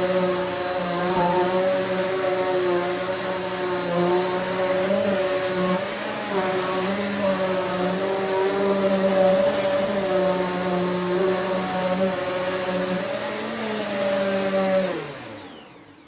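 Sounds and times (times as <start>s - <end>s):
vacuum cleaner running on carpet: 0.0s - 16.0s
vacuum cleaner winding down: 0.0s - 16.0s.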